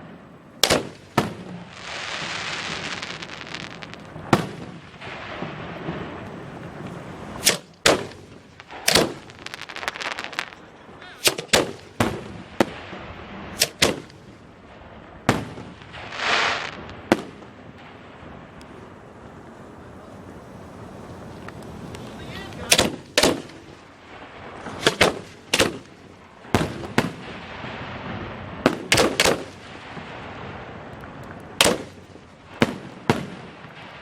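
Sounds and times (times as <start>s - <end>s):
fireworks hissing and crackling: 0.0s - 34.0s
firework shells bursting: 0.4s - 34.0s.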